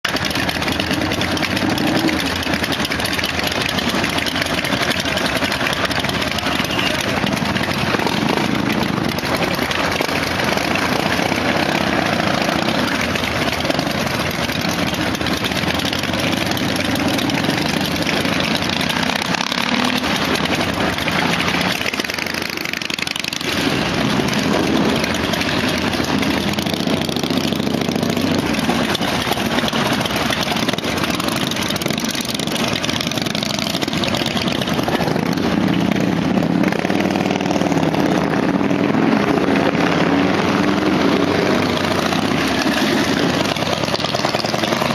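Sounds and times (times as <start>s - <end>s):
motorcycle engines running: 0.0s - 44.9s.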